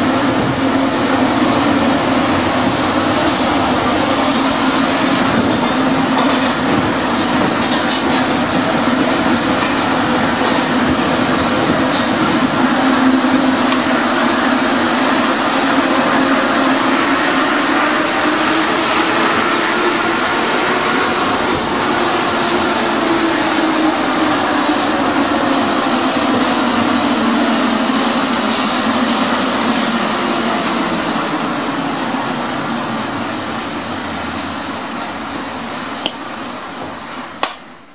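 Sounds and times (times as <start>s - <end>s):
train rolling through tunnel: 0.0s - 37.9s.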